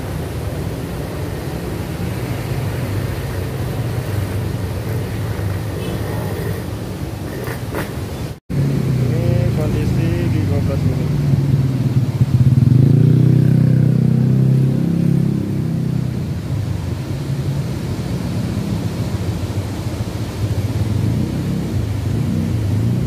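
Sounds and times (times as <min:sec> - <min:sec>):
river rushing through weir: 0:00.0 - 0:23.0.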